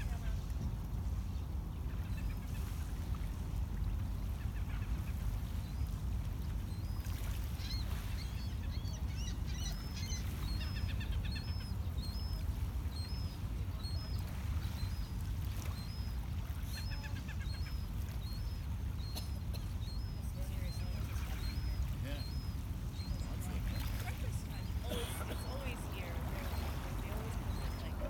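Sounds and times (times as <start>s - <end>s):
birds chirping: 4.3s - 28.0s.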